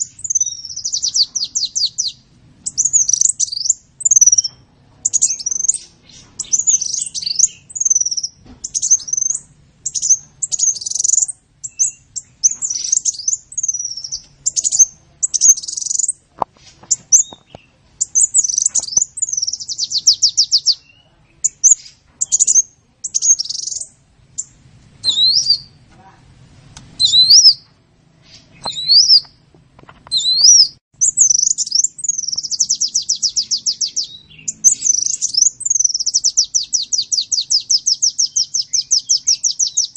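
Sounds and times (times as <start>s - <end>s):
bird singing: 0.0s - 16.2s, 16.8s - 25.8s, 27.0s - 29.4s, 30.1s - 39.9s.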